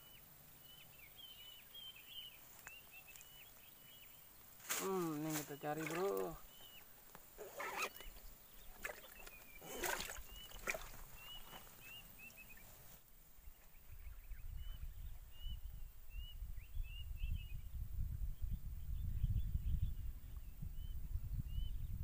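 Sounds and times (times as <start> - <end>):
small birds chirping: 0.0 - 17.8.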